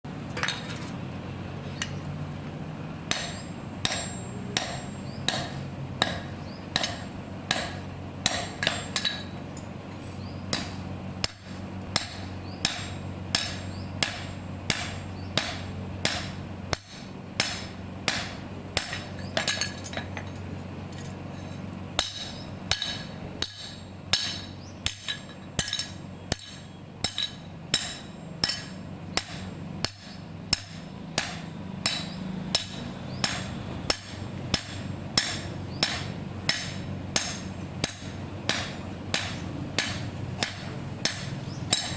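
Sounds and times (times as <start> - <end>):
steady low hum: 0.0 - 41.9
hammer striking metal: 3.1 - 9.4, 10.5 - 20.4, 21.0 - 41.9.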